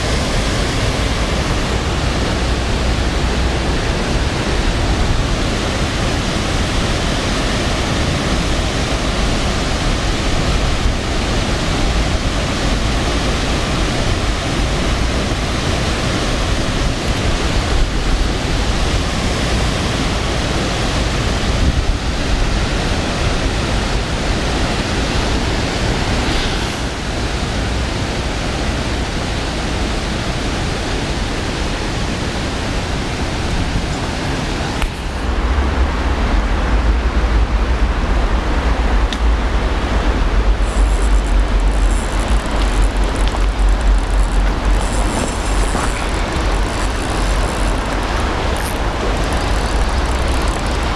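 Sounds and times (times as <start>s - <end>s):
river water rushing over weir: 0.0s - 50.9s.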